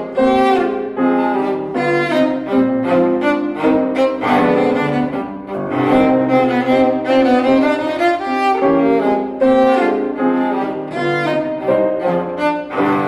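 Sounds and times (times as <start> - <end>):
cello melody: 0.0 - 13.0
grand piano accompanying: 0.0 - 13.0.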